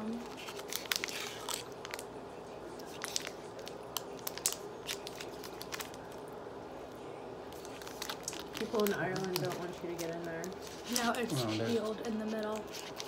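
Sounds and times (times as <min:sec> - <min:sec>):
chocolate wrapper crinkling: 0:00.0 - 0:06.4, 0:07.4 - 0:13.0.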